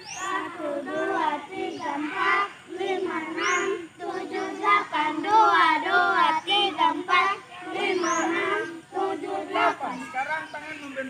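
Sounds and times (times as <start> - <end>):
children chanting in unison: 0.0 - 10.5.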